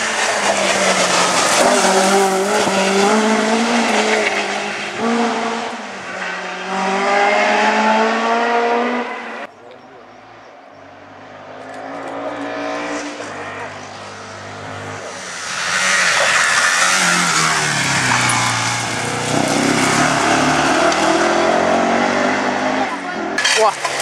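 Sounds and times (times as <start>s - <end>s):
rally car engine at full throttle: 0.0s - 9.5s, 10.2s - 24.0s
tyre and road noise: 0.0s - 24.0s.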